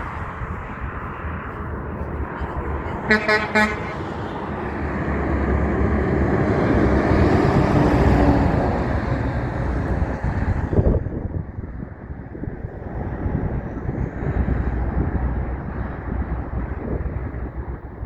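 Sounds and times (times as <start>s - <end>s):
heavy truck passing: 0.0s - 18.0s.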